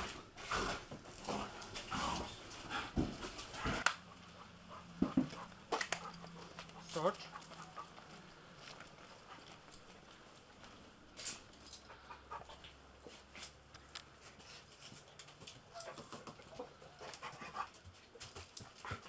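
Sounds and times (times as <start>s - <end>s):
dog panting and sniffing: 0.0s - 9.9s, 11.8s - 13.6s, 14.2s - 19.0s.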